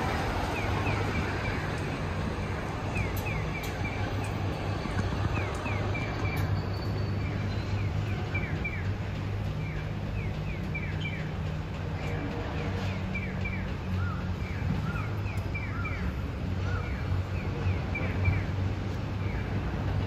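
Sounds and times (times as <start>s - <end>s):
low engine hum of traffic: 0.0s - 20.0s.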